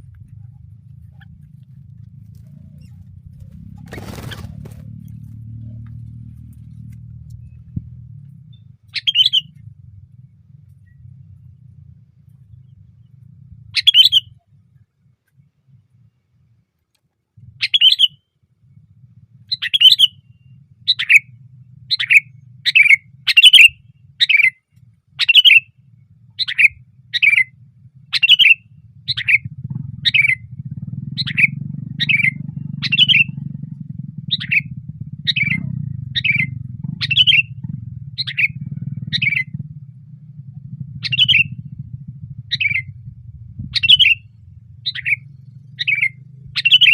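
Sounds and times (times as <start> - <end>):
low background rumble: 0.0 - 46.9.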